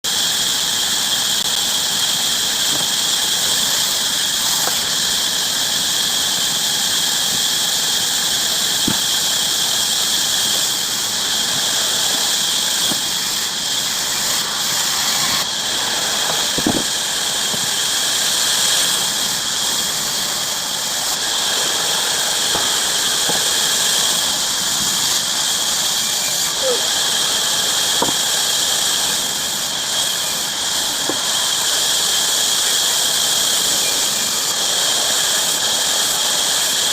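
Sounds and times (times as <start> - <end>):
bandsaw cutting wood: 0.1 - 36.9.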